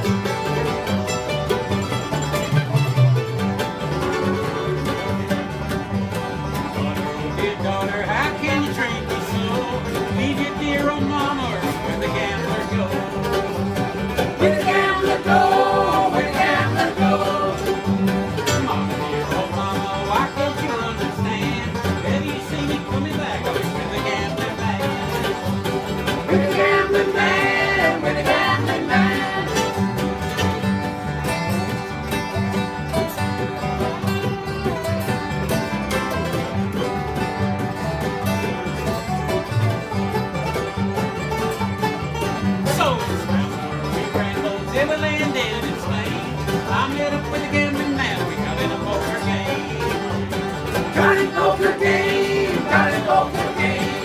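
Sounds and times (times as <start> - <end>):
bluegrass string band music: 0.0 - 54.0.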